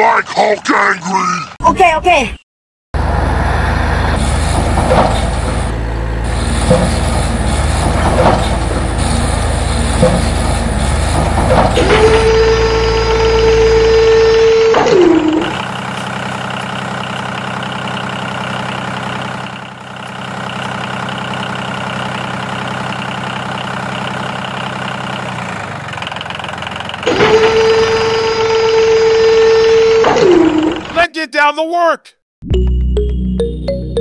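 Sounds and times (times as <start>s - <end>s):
engine idling: 3.0s - 31.0s.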